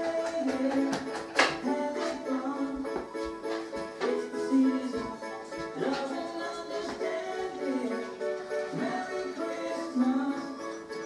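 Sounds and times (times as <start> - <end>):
music playing on a radio: 0.0 - 11.0.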